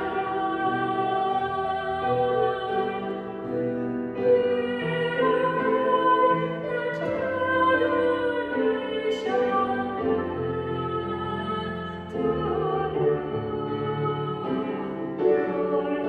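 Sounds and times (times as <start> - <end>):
woman singing into a microphone: 0.0 - 3.3, 4.2 - 16.0.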